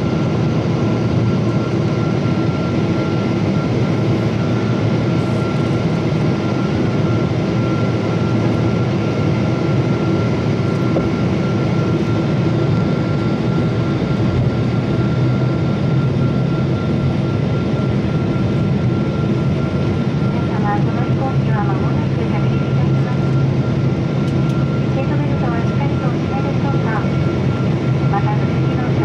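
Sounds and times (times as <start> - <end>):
jet engine and airflow rumble: 0.0 - 29.0.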